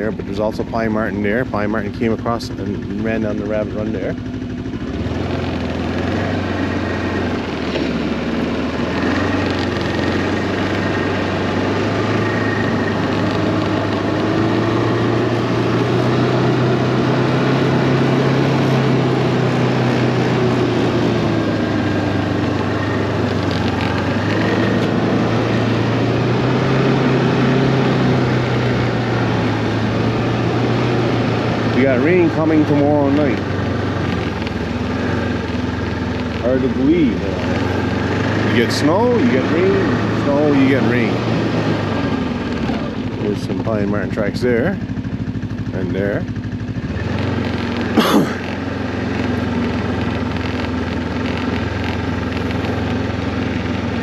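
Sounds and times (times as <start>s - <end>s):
snowmobile engine cruising: 0.0s - 54.0s.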